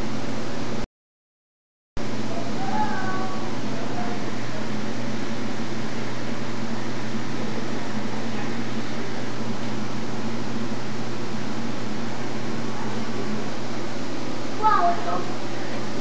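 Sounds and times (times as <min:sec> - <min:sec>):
constant low hum: 0:02.0 - 0:16.0.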